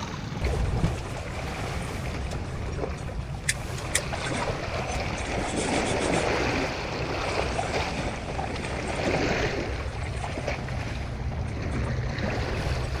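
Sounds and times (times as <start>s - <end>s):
sea water washing: 0.0s - 13.0s.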